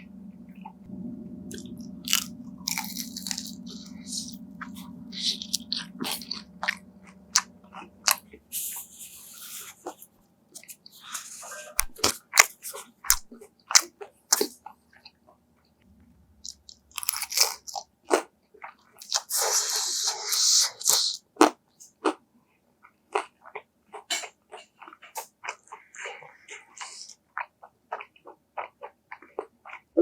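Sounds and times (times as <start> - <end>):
crunchy food chewing: 1.5 - 15.2, 16.4 - 22.2, 22.8 - 29.9.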